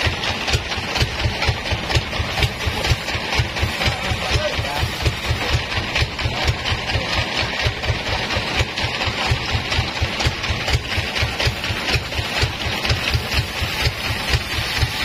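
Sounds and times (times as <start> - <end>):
band saw cutting wood: 0.0 - 15.0.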